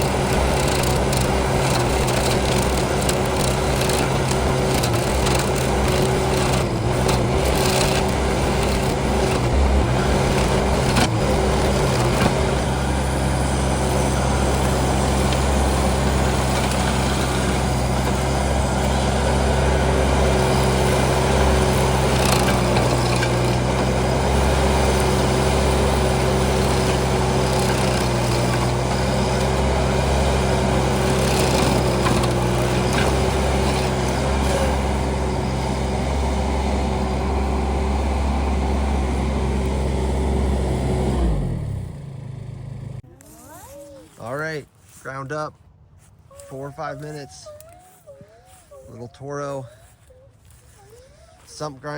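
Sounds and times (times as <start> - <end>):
engine running under load: 0.0 - 51.9
stump grinder grinding wood: 0.0 - 51.9.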